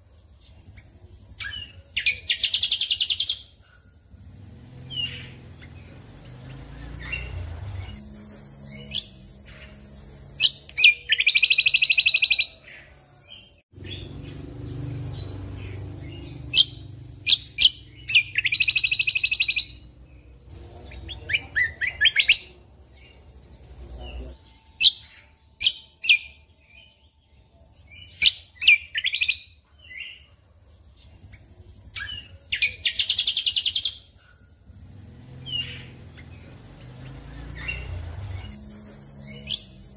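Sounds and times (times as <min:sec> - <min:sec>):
bird buzzy trills: 0:00.0 - 0:39.9
songbird singing sharp notes: 0:00.2 - 0:30.4, 0:31.0 - 0:39.9.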